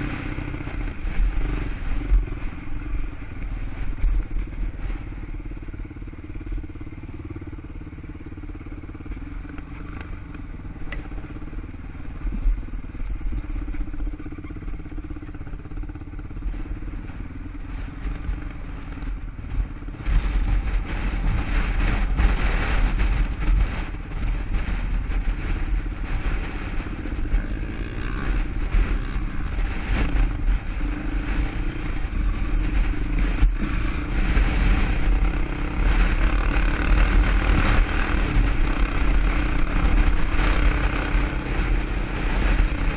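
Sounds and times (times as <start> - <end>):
quad engine droning: 0.0 - 42.9.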